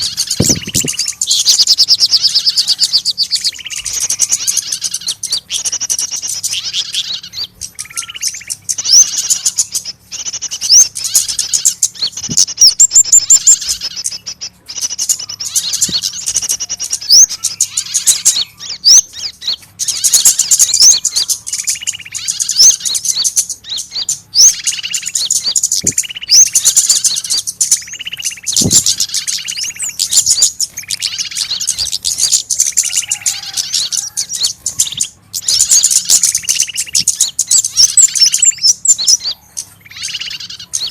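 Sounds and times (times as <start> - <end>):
small birds chirping distress cries: 0.0 - 40.9.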